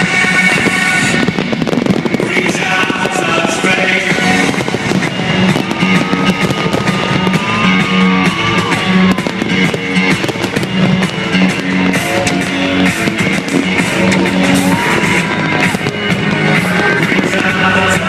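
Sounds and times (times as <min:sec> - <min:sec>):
fireworks bangs and crackles: 0:00.0 - 0:18.0
guitar rock music: 0:00.0 - 0:18.0.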